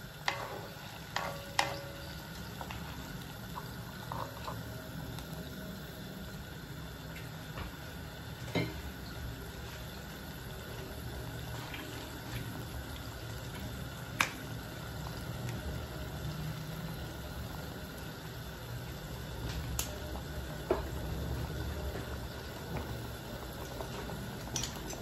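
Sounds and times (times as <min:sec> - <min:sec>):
broth simmering in a wok: 0:00.0 - 0:25.0.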